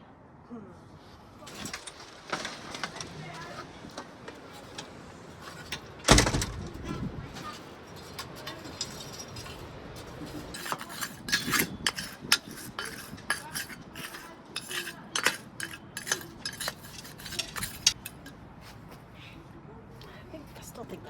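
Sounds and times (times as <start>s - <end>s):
stone clinking and scraping: 1.5s - 18.4s.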